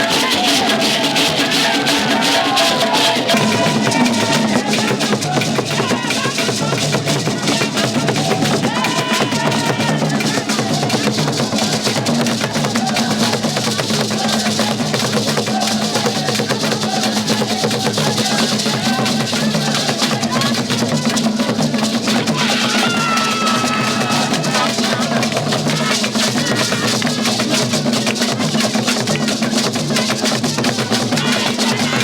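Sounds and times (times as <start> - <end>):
loud drum-driven music: 0.0 - 32.0.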